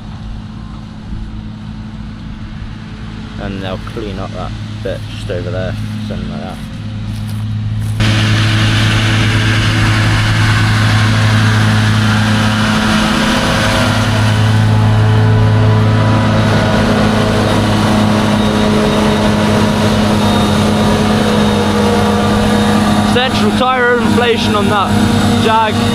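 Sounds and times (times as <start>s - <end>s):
diesel engine drone: 0.0s - 25.9s
rush of mechanical noise: 0.0s - 25.9s.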